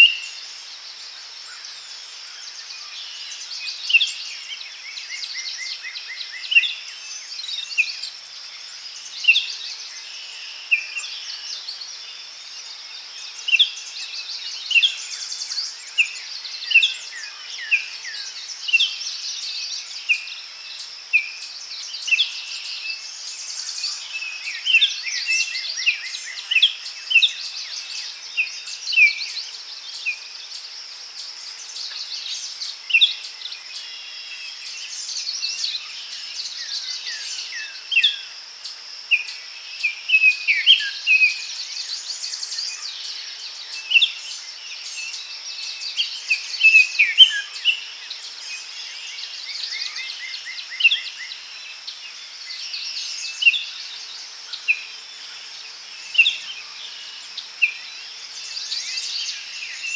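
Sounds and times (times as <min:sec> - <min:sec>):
high-pitched insect hiss: 0:00.0 - 0:59.9
small birds chirping: 0:00.0 - 0:59.9.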